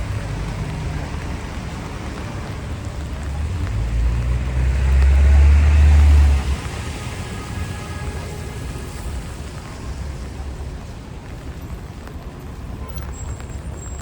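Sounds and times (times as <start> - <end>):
deep rumble of heavy traffic: 0.0 - 14.0
rain: 0.0 - 14.0.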